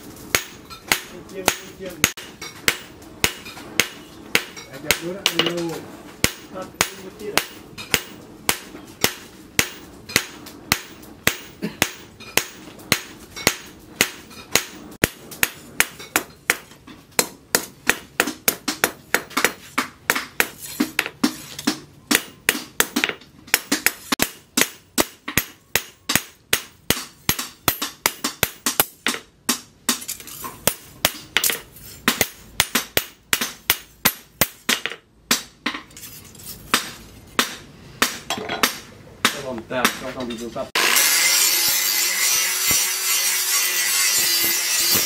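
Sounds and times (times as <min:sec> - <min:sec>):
hammer striking metal on anvil: 0:00.3 - 0:35.9, 0:36.7 - 0:45.0.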